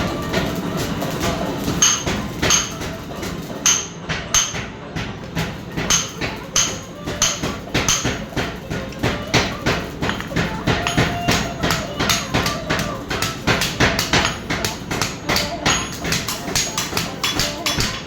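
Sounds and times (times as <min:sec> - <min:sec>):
power hammer striking: 0:01.2 - 0:03.0, 0:03.6 - 0:18.0.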